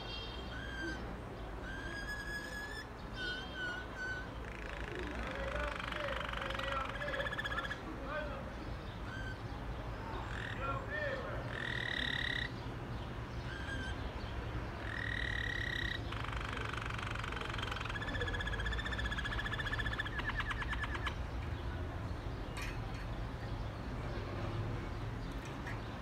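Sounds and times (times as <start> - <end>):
canary singing: 0.0 - 21.7.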